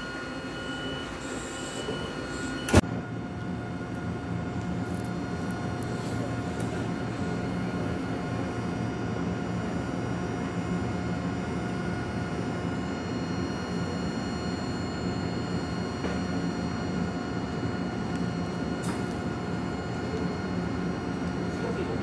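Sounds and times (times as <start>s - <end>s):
train electrical hum and whine: 0.0s - 22.0s.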